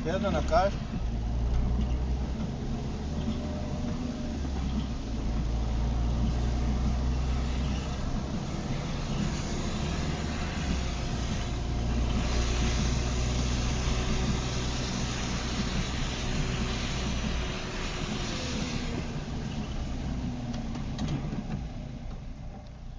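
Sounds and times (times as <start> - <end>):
car engine and road hum: 0.0 - 22.9
rain and tyres hissing on wet road: 0.0 - 22.9.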